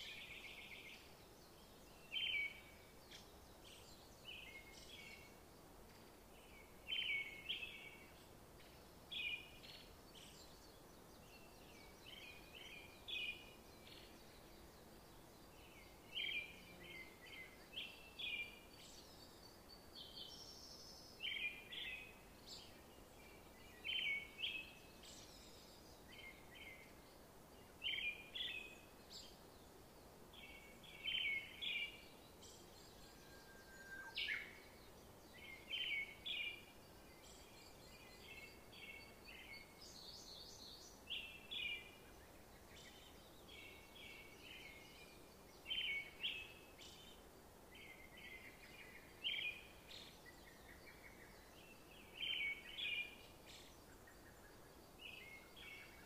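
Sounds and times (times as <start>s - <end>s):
faint steady hiss: 0.0s - 56.0s
small birds chirping: 0.0s - 56.0s.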